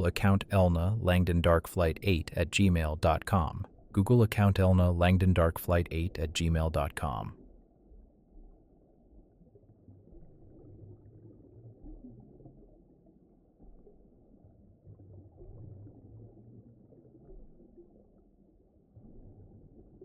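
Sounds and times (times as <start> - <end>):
low muffled underwater rumble: 0.0 - 20.0.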